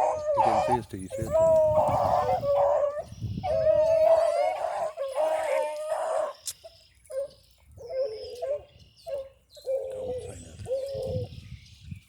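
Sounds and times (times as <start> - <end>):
hounds baying: 0.0 - 6.4, 7.0 - 11.2.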